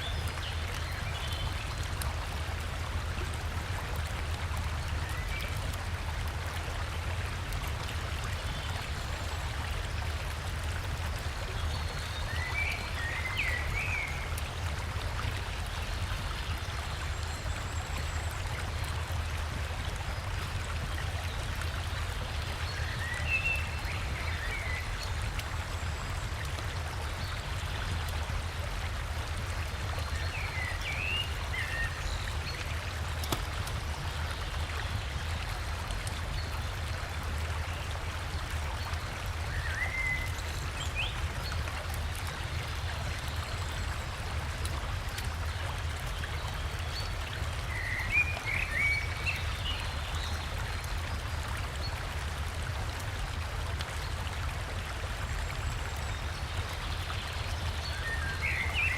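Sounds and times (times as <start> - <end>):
small waterfall: 0.0 - 58.9.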